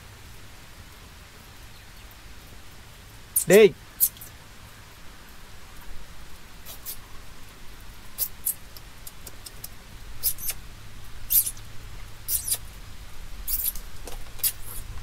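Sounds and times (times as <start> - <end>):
rustles and crackles of leaves: 0.0 - 15.0.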